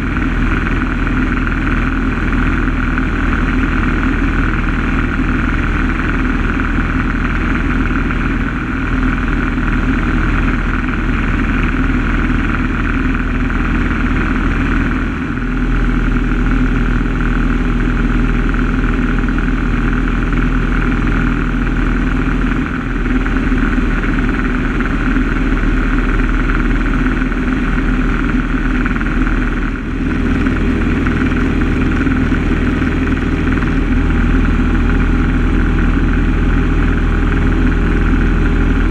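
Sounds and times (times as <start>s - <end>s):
propeller aircraft engine drone: 0.0s - 38.9s.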